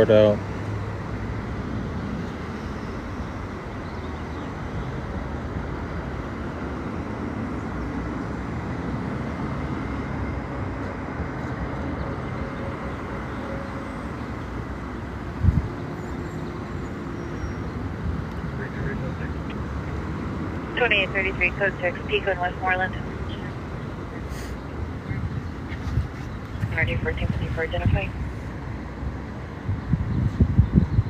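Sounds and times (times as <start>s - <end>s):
street traffic hum: 0.0s - 31.0s.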